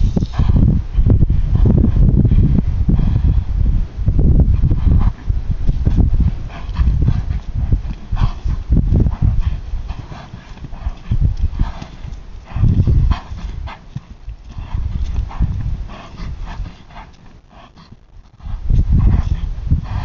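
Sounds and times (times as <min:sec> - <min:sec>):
horse hoofbeats on dirt: 0:00.0 - 0:03.3, 0:04.3 - 0:20.0.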